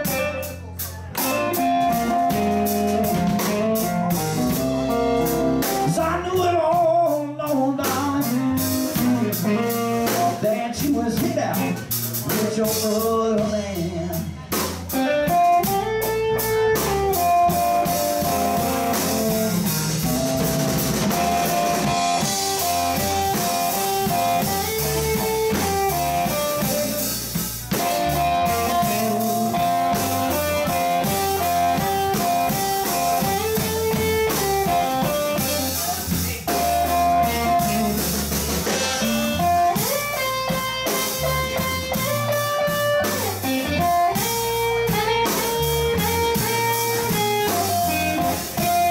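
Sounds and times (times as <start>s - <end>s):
electric guitar lead lines: 0.0s - 12.2s, 14.9s - 48.9s
bass guitar: 0.0s - 48.9s
drum kit: 0.0s - 48.9s.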